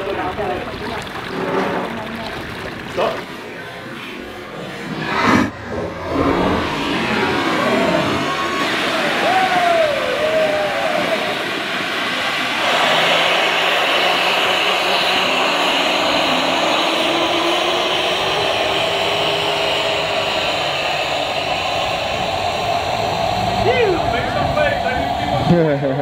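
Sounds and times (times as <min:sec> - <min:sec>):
rush of escaping gas: 0:01.2 - 0:26.0.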